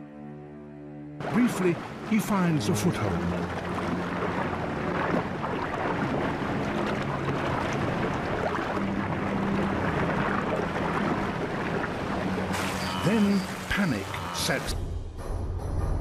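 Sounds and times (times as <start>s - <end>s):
underwater churning of water: 1.3s - 14.7s.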